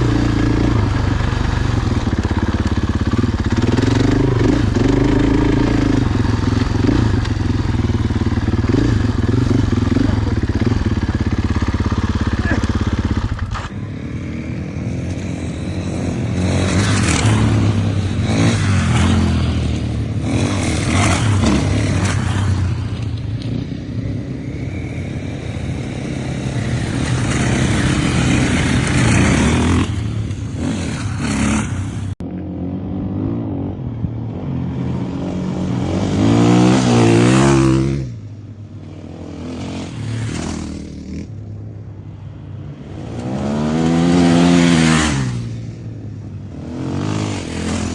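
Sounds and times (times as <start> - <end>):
motocross bike engines revving: 0.0 - 41.4, 42.4 - 47.9.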